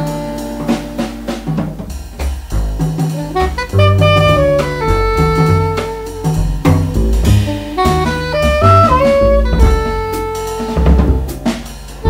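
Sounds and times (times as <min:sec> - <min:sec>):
soprano saxophone: 0:00.0 - 0:01.6, 0:03.2 - 0:11.5
double bass: 0:00.0 - 0:12.0
drum kit: 0:00.0 - 0:12.0.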